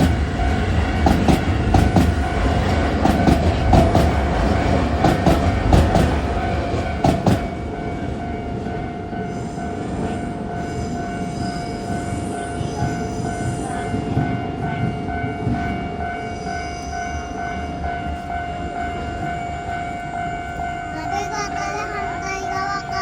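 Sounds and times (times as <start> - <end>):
level-crossing warning bell: 0.0 - 23.0
train rumbling: 0.0 - 23.0.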